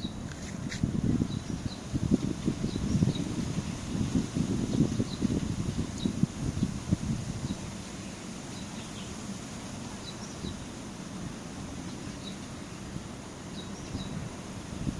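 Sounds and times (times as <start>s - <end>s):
birds chirping: 0.0s - 14.9s
low outdoor background noise: 0.0s - 14.9s.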